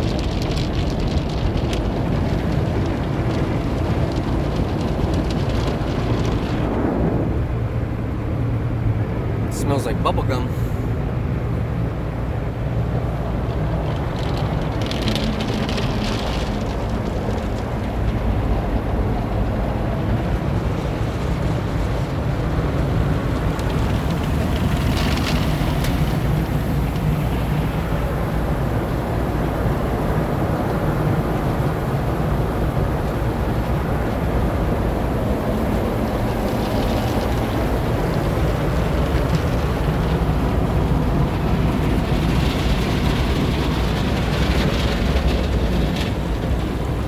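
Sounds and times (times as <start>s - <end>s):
car wash water and machinery rumble: 0.0s - 47.0s.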